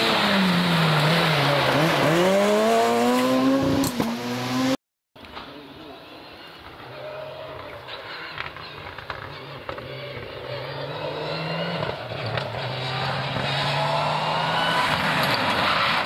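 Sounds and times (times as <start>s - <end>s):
rally car engine at full throttle: 0.0s - 4.8s, 6.7s - 16.0s.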